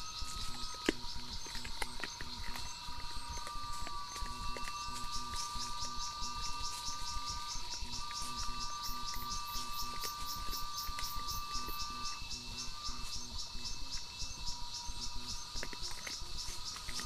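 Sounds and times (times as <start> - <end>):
rhythmic insect chirps: 0.0 - 17.0
steady high insect trill: 0.0 - 17.0
steady whining tones: 0.0 - 17.0.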